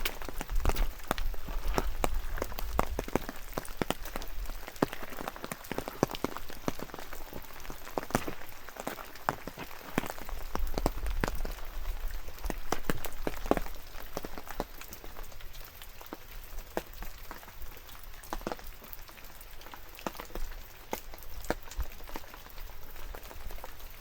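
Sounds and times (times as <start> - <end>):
rain falling: 0.0 - 24.0
raindrops tapping close by: 0.0 - 24.0.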